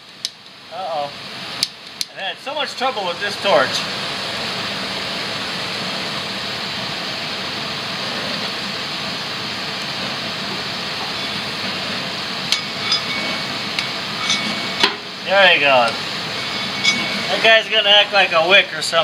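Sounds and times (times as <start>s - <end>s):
propane torch hissing: 0.0s - 19.0s.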